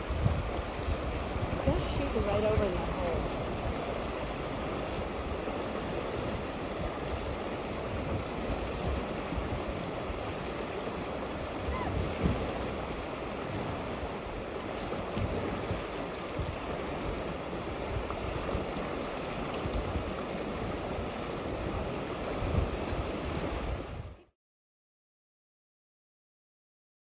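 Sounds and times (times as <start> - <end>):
river water rushing: 0.0 - 24.1
wind rumbling on microphone: 0.0 - 24.3.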